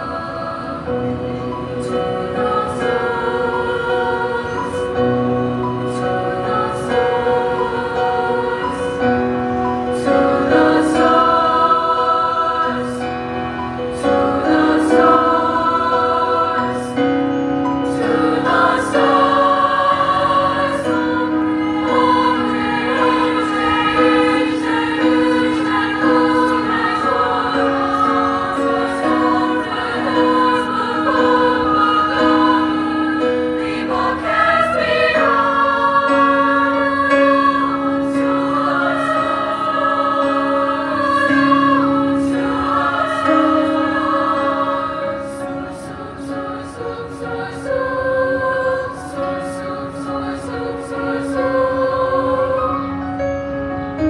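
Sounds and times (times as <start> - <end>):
choir singing in harmony: 0.0 - 54.0
piano accompaniment: 0.0 - 54.0.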